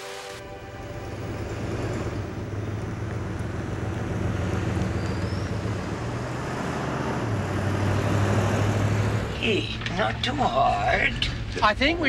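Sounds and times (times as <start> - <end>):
motorhome engine drone: 0.0 - 12.0
road noise: 0.0 - 12.0.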